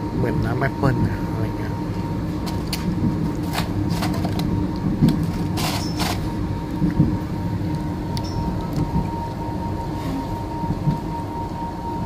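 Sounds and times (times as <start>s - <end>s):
faint hum: 0.0s - 12.0s
train carriage rumble: 0.0s - 12.0s.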